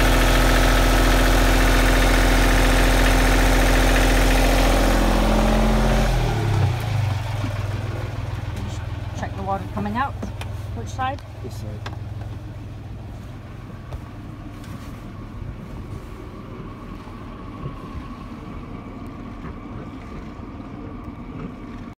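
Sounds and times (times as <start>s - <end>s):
cooling water splashing from exhaust: 0.0s - 22.0s
diesel engine running: 0.0s - 22.0s.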